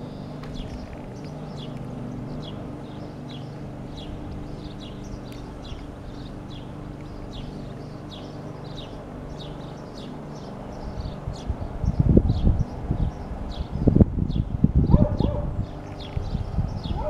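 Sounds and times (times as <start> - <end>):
birds chirping: 0.0 - 17.0
distant helicopter hum: 0.0 - 17.0.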